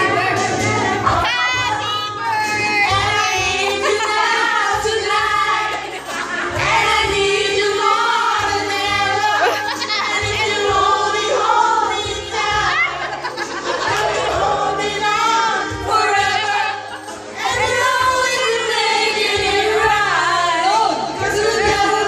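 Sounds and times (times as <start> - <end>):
group of people singing: 0.0 - 22.0.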